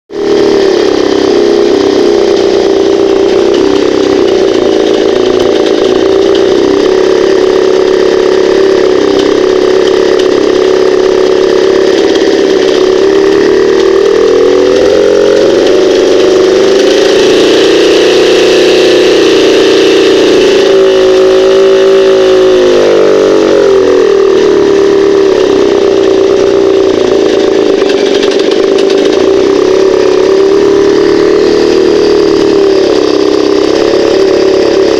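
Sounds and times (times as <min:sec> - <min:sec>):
engine knocking and ringing: 0:00.1 - 0:34.9
outboard motor running: 0:00.1 - 0:34.9.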